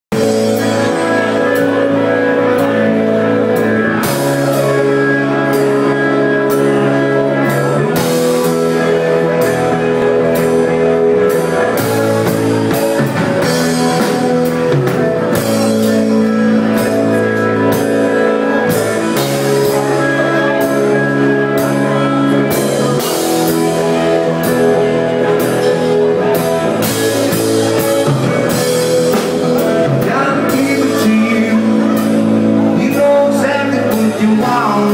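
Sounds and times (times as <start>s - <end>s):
rock band playing: 0.1s - 34.9s.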